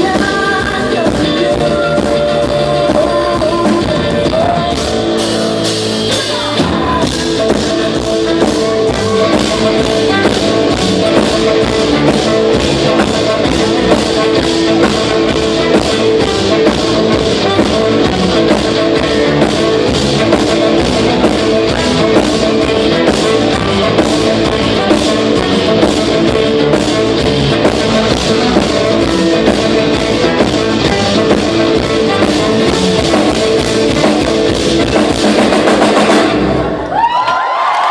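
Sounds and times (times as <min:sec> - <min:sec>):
drum kit beat: 0:00.0 - 0:36.9
guitar: 0:00.0 - 0:37.9.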